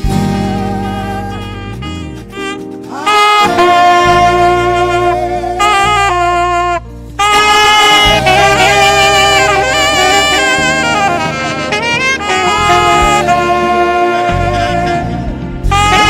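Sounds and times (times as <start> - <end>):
lead instrument long held notes: 0.0 - 16.0
steady bass line: 0.0 - 16.0.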